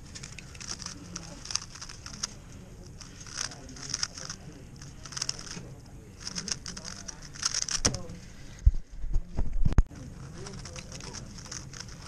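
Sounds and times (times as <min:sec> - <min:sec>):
speed cube clicky turns: 0:00.1 - 0:08.0, 0:10.2 - 0:12.0.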